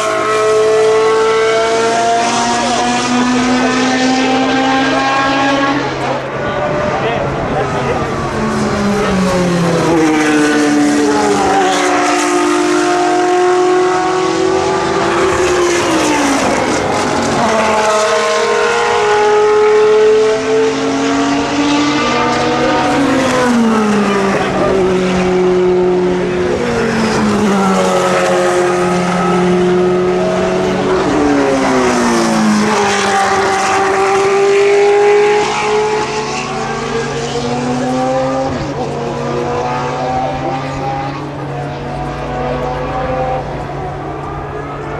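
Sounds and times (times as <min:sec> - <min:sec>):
racing car engines at high revs: 0:00.0 - 0:44.9.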